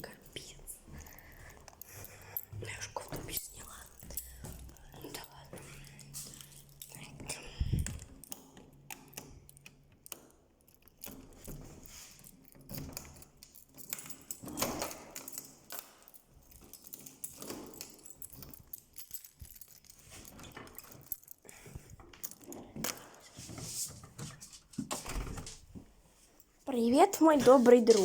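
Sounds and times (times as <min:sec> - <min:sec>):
keys jangling: 0:00.0 - 0:23.4.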